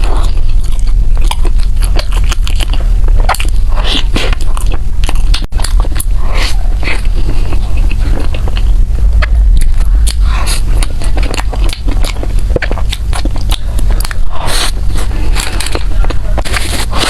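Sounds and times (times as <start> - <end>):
crunchy bread bites and chewing: 0.0 - 17.0.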